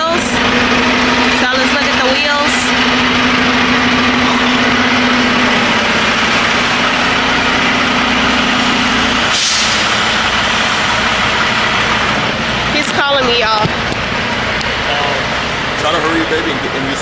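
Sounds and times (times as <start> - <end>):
steady hum: 0.0 - 17.0
truck diesel engine idling: 0.0 - 17.0.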